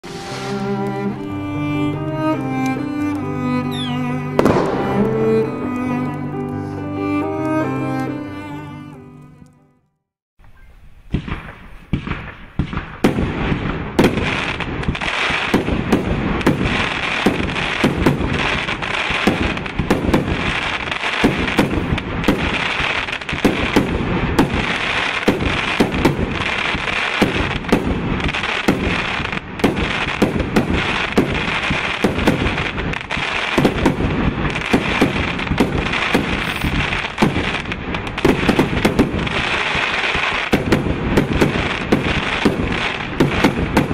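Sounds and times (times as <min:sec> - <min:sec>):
firework cake launches and bursts: 0:00.0 - 0:02.0, 0:03.7 - 0:05.6, 0:11.1 - 0:43.9.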